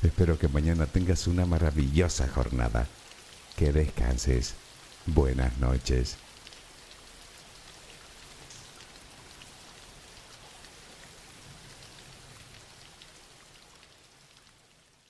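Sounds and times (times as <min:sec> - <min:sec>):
raindrops ticking: 0:00.0 - 0:14.6
soft steady rain: 0:00.0 - 0:15.0.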